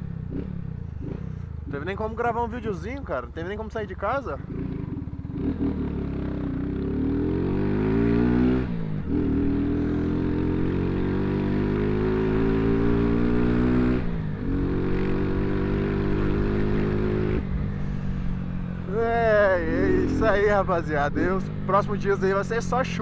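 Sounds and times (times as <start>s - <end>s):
motorcycle accelerating: 0.0s - 23.0s.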